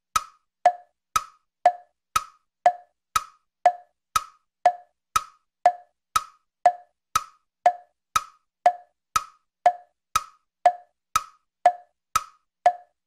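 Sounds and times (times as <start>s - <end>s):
wood block tick-tock knocks: 0.1s - 13.0s.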